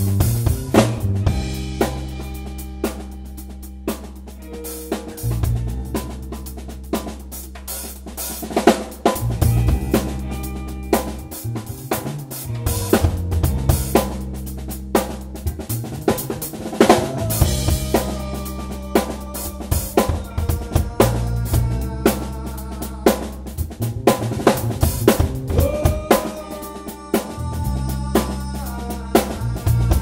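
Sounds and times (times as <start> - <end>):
drum kit: 0.0 - 30.0
guitar lines with bent notes: 0.0 - 30.0
sustained bass guitar notes: 0.0 - 30.0.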